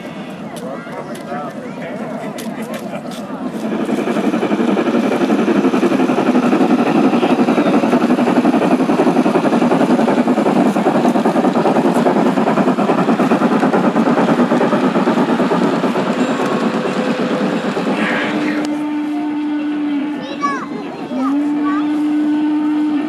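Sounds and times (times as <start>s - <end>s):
model steam locomotive running: 0.0s - 23.0s.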